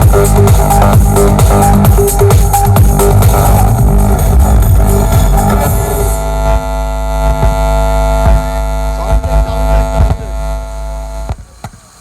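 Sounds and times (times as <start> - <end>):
heavy low thumps: 0.0 - 11.5
buzzing electrical hum: 0.0 - 12.0.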